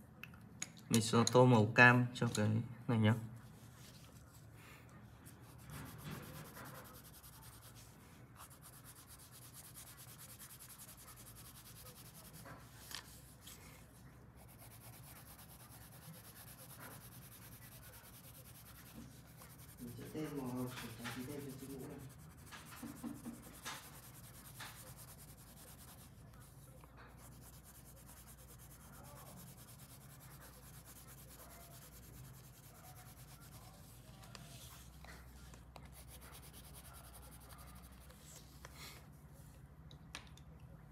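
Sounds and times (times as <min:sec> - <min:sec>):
pencil shading on paper: 0:05.3 - 0:38.3.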